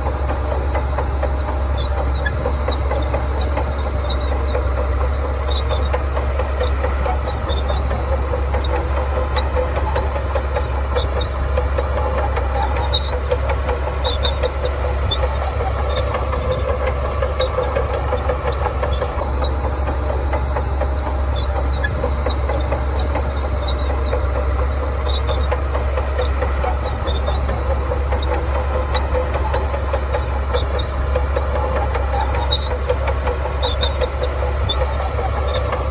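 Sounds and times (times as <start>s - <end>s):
bulldozer diesel engine droning: 0.0s - 35.9s.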